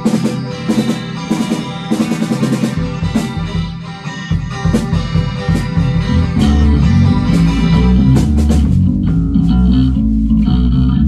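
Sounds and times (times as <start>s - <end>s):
drum hits: 0.0s - 10.1s
rock band playing live: 0.0s - 11.0s.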